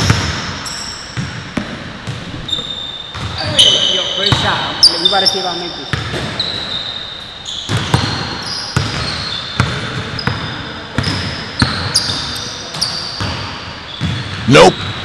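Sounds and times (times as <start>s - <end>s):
basketballs bouncing on court: 0.0s - 15.0s
shoe squeaks: 0.6s - 14.6s.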